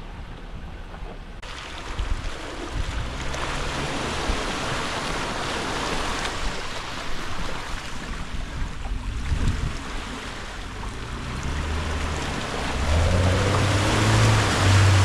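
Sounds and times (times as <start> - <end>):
low vehicle rumble: 0.0 - 7.0, 8.1 - 15.0
vehicle splashing through muddy water: 1.4 - 15.0.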